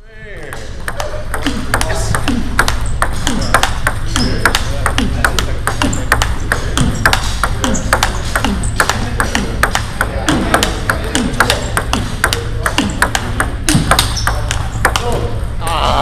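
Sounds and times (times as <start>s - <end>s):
ping pong ball hitting paddles: 0.4s - 15.4s
distant ping pong ball clicks: 0.5s - 15.2s
ping pong ball bouncing on table: 0.5s - 15.2s.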